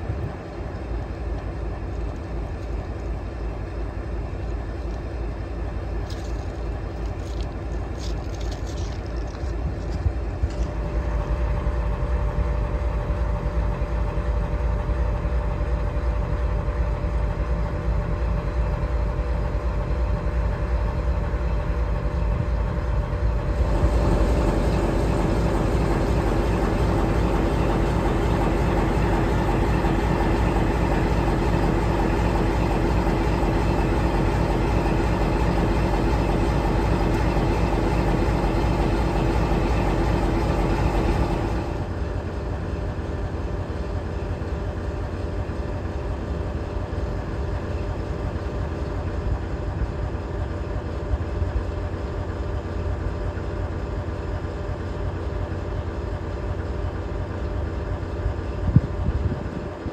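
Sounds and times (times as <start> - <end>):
steady hum: 0.0 - 51.2
diesel locomotive idling: 0.0 - 59.9.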